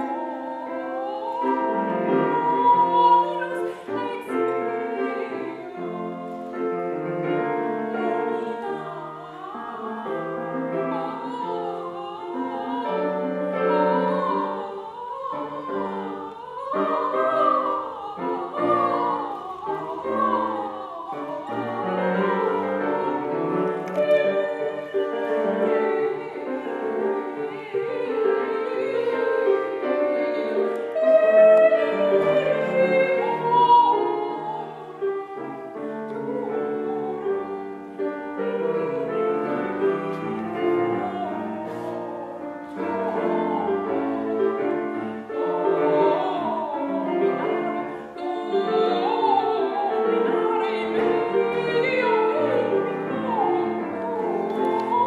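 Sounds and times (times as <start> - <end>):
grand piano: 0.0 - 55.0
woman singing opera: 0.0 - 55.0.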